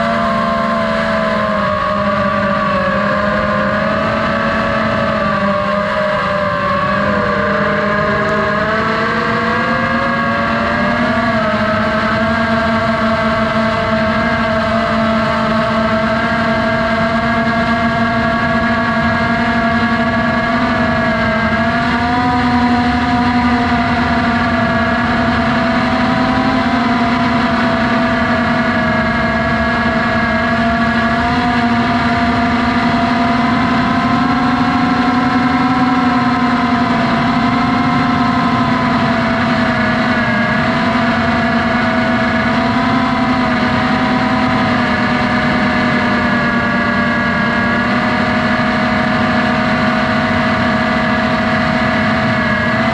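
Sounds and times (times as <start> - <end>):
drone propellers humming: 0.0 - 52.9.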